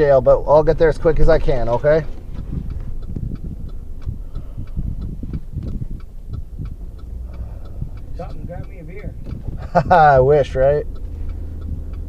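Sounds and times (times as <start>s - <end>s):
car engine rumble: 0.0s - 12.0s
turn signal clicking: 0.0s - 12.0s.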